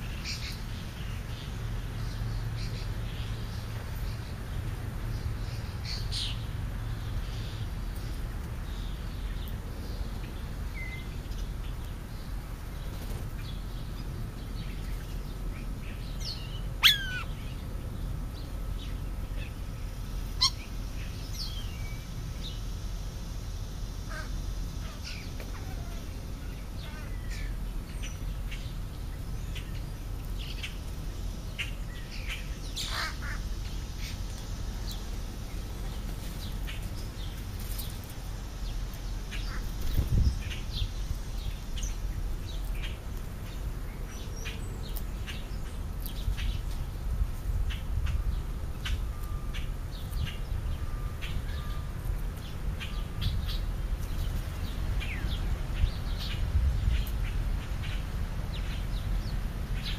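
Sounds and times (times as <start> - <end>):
birds chirping: 0.0 - 59.9
steady low rumble: 0.0 - 59.9.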